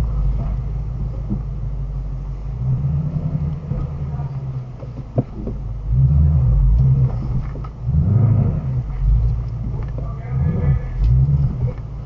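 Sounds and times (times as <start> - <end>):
car engine deep rumble: 0.0 - 12.0.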